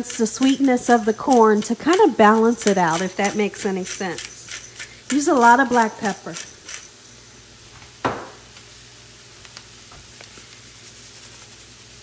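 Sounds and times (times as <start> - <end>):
corn sizzling in a skillet: 0.0 - 12.0.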